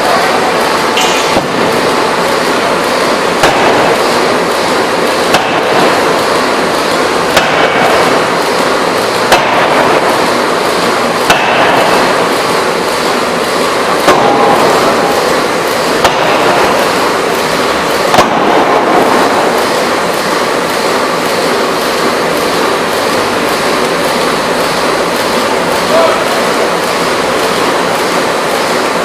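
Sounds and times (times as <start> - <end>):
constant loud machine noise: 0.0 - 29.0
forging hammer blows: 0.0 - 29.0.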